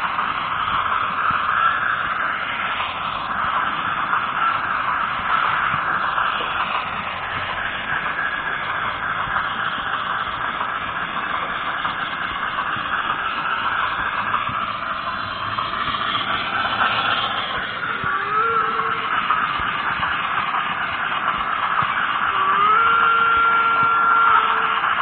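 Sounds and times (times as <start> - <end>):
model train motor whirring: 0.0 - 25.0.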